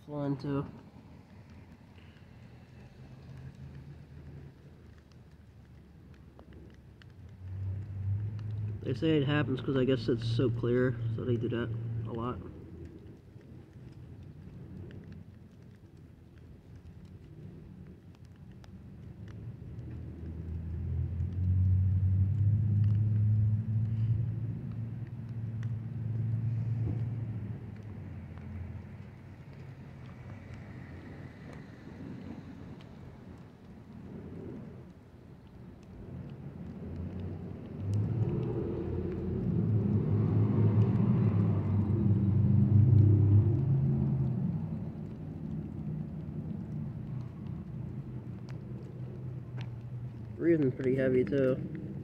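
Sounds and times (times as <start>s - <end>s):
vehicle engine rumble: 0.0s - 52.0s.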